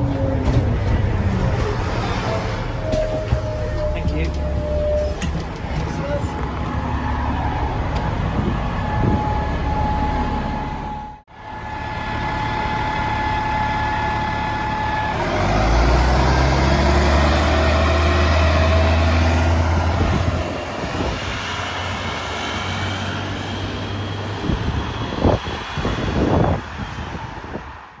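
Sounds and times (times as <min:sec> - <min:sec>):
bus diesel engine: 0:00.0 - 0:28.0.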